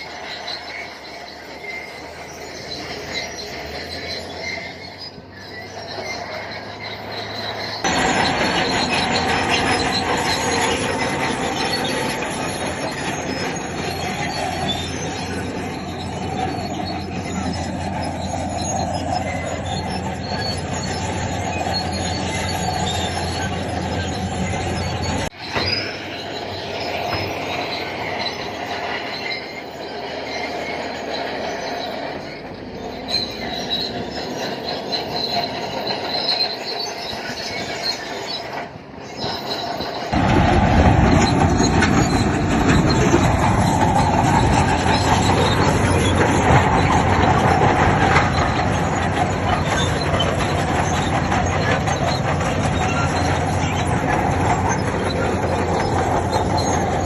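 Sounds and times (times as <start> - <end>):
bulldozer engine running: 0.0 - 57.0
steel tracks squealing and grinding: 0.0 - 57.0.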